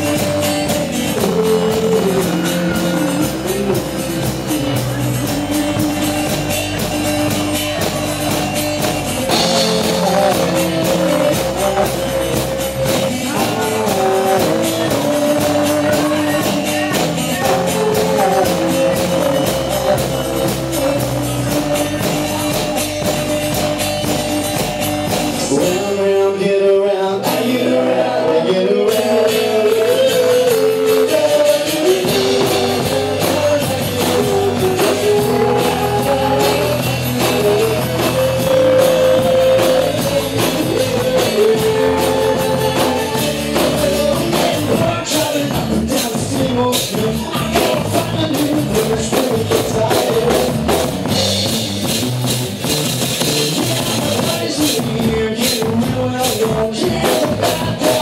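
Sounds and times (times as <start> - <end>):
male lead vocal: 0.0 - 51.6, 52.6 - 58.0
live pop-rock band playing: 0.0 - 58.0.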